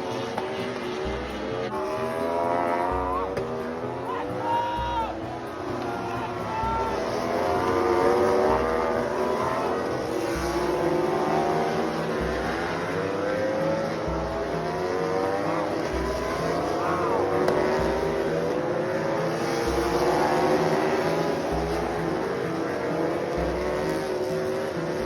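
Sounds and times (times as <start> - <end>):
racing motorcycle engines revving: 0.0 - 25.0.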